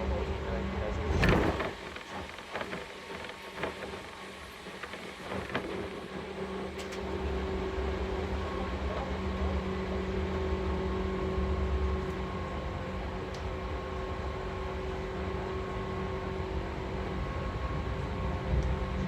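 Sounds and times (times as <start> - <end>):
constant hum: 0.0 - 19.0
train running gear rumble: 0.4 - 19.0.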